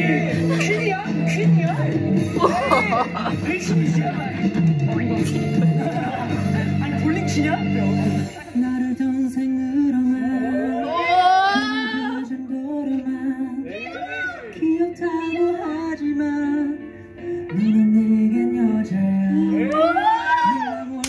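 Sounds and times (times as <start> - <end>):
backing music: 0.0 - 21.0
young man singing: 0.0 - 21.0.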